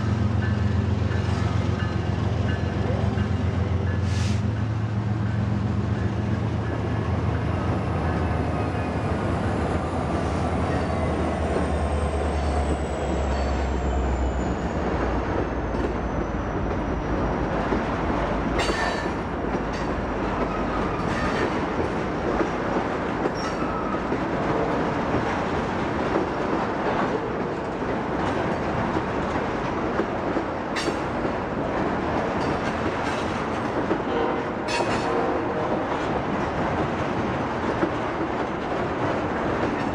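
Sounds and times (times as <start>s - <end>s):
diesel locomotive engines droning: 0.0s - 39.9s
train wheels rumbling: 0.0s - 39.9s.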